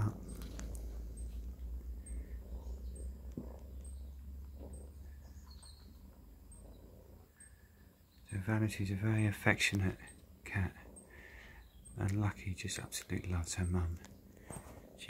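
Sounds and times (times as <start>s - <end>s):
cats purring: 0.0s - 15.0s.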